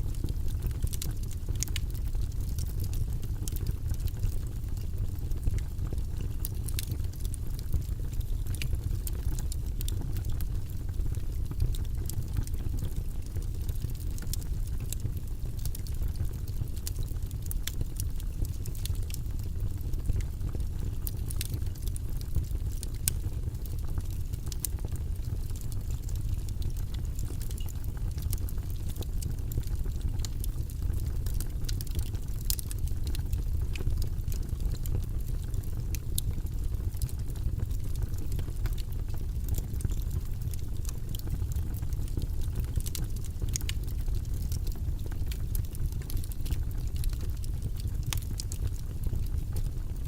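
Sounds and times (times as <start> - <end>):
low rumbling white noise: 0.0 - 50.0.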